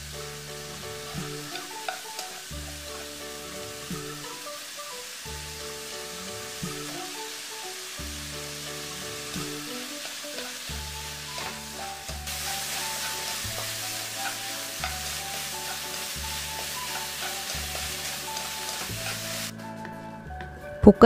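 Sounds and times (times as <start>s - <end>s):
meat sizzling in a frying pan: 0.0s - 19.5s
soft background music: 0.0s - 21.0s.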